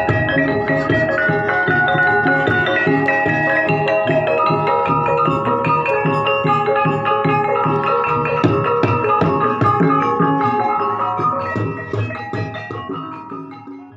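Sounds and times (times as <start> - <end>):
hand drum beat: 0.0 - 13.8
gongs and metal percussion: 0.0 - 13.9.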